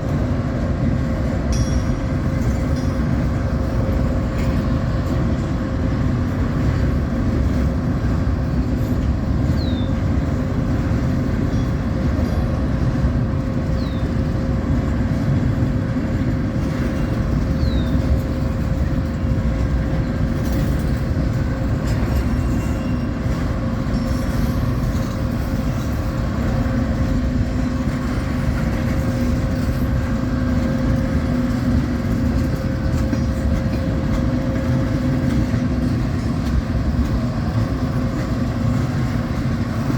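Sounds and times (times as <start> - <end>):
train rumbling by: 0.0 - 39.9.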